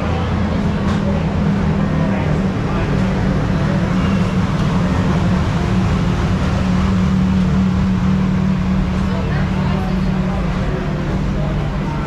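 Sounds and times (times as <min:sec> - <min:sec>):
constant low hum: 0:00.0 - 0:12.0
train rumbling: 0:00.0 - 0:12.0.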